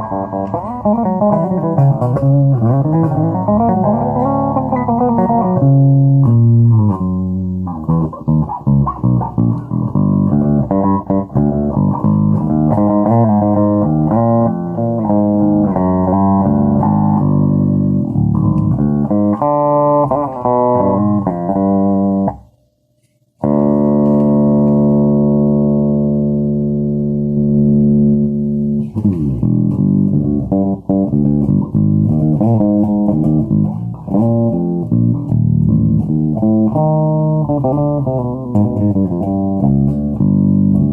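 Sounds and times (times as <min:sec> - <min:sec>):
electric bass plucked notes: 0:00.0 - 0:22.6, 0:23.4 - 0:40.9.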